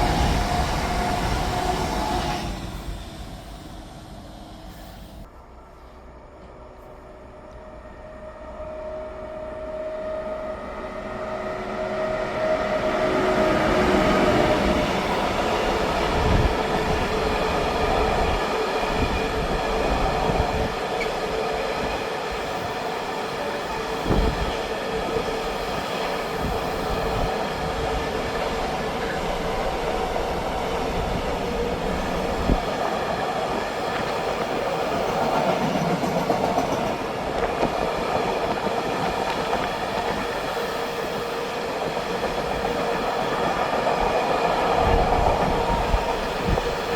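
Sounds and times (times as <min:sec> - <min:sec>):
train rumbling past: 0:00.0 - 0:46.9.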